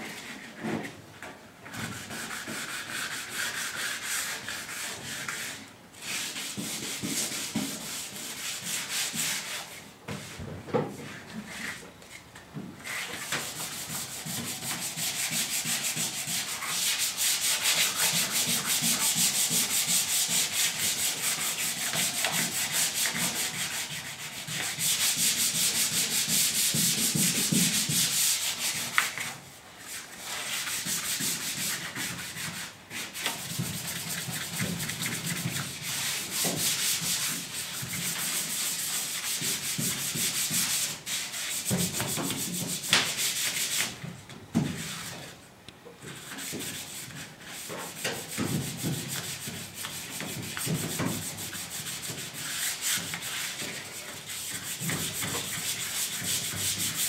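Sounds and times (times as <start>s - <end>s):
sandpaper rubbing strokes: 1.9s - 9.8s, 12.8s - 44.0s, 46.1s - 57.0s.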